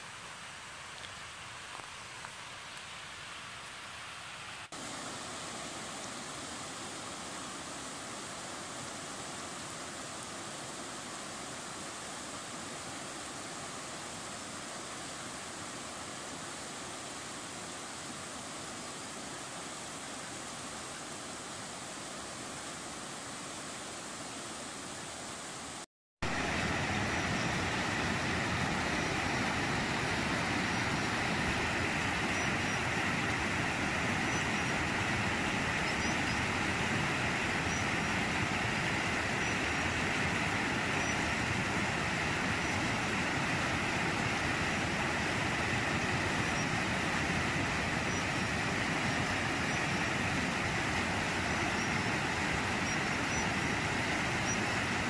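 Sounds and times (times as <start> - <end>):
river rapids rushing: 0.0 - 55.0.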